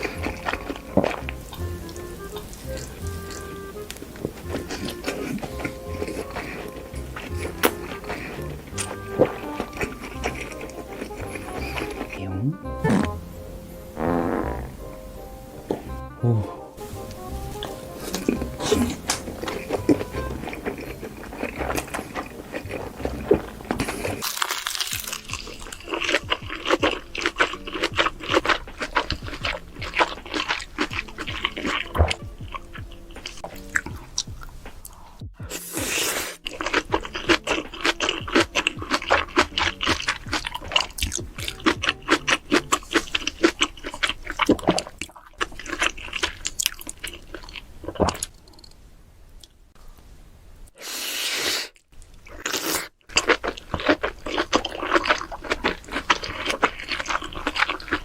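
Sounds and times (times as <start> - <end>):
loud crunchy chewing: 0.0 - 13.3, 13.9 - 48.7, 50.8 - 58.0
faint music: 0.0 - 48.2, 53.2 - 58.0.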